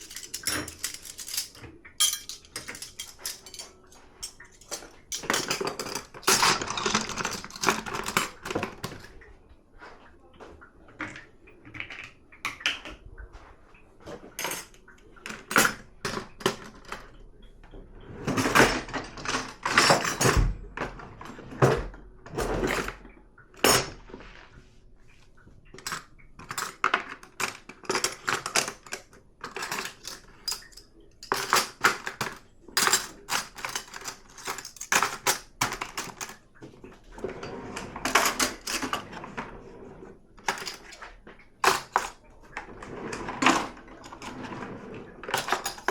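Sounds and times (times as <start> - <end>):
dishes and cutlery clinking: 0.0 - 9.2, 14.1 - 17.2, 18.2 - 24.4, 25.7 - 39.8, 40.4 - 45.9.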